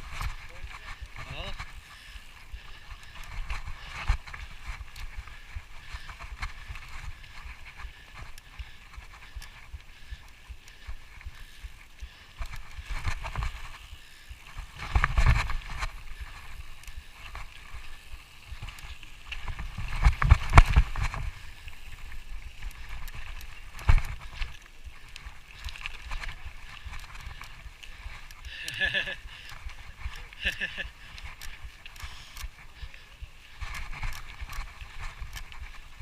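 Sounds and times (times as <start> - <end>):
footsteps on a trail: 0.0 - 36.0.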